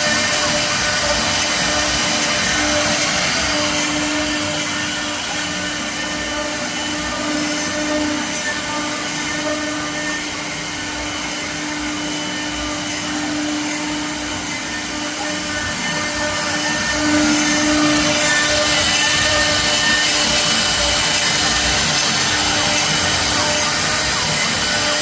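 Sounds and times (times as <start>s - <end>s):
router motor whine: 0.0s - 25.0s.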